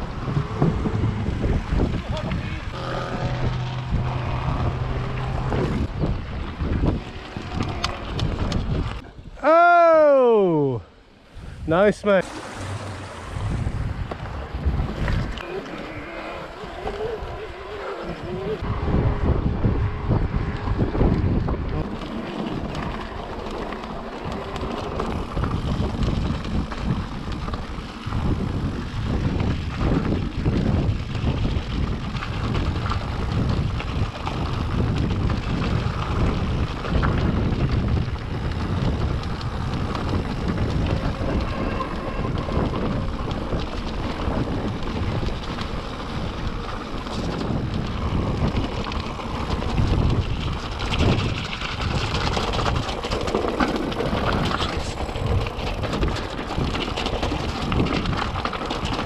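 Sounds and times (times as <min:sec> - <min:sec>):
bike tyres crunching on stones: 0:00.0 - 0:09.0, 0:20.1 - 0:59.0
wind on microphone: 0:00.0 - 0:09.5, 0:10.7 - 0:59.0.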